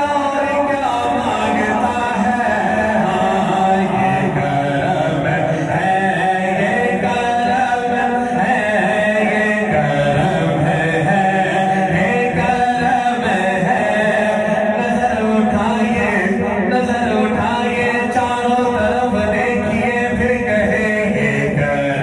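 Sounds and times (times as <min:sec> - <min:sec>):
men chanting together: 0:00.0 - 0:22.0.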